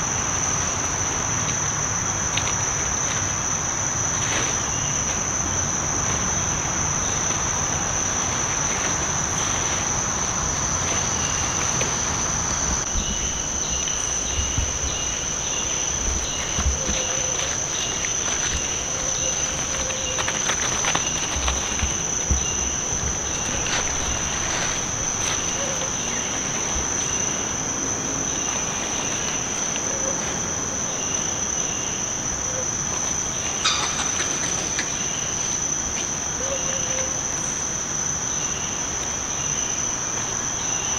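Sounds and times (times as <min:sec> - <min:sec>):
chirping insect: 0:00.0 - 0:40.9
insect drone: 0:00.0 - 0:40.9
rustles in dry leaves: 0:00.0 - 0:40.9.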